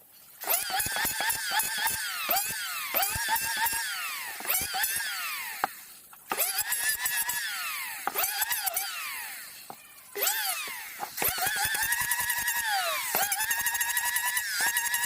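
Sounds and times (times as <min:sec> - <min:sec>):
electric power tool whining: 0:00.4 - 0:15.0.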